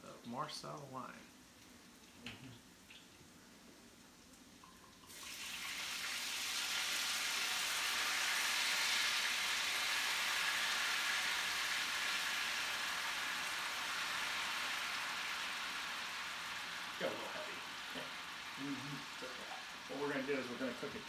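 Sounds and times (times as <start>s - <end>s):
loud sizzle in skillet: 1.5s - 21.0s
wine pouring into pan: 1.6s - 21.0s.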